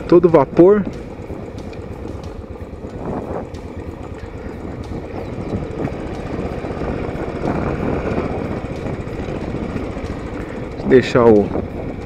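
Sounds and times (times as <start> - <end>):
motorcycle engine engine braking: 0.0 - 12.0.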